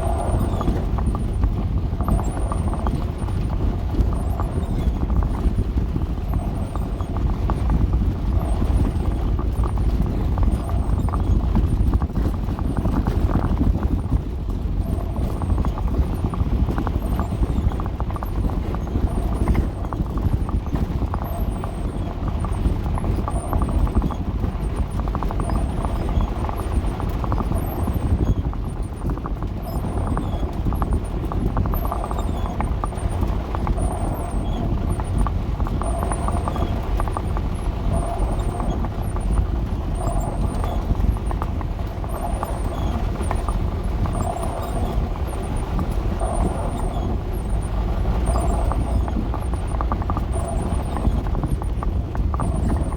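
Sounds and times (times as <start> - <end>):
van engine and road rumble: 0.0 - 52.9.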